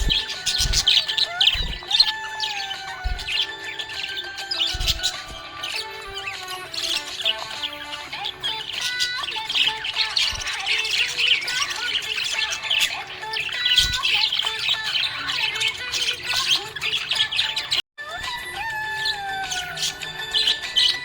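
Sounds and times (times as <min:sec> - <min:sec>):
budgerigars chirping: 0:00.0 - 0:17.8, 0:19.1 - 0:21.0.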